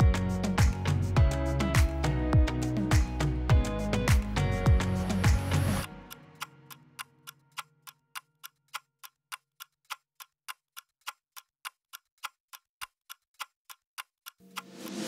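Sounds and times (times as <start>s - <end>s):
clock-like ticking in music: 0.0s - 15.0s.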